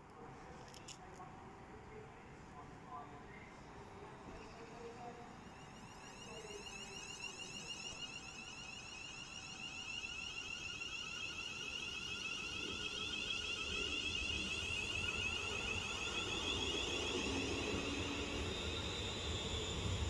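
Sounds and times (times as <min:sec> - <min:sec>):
electric train whine accelerating: 0:03.6 - 0:20.0.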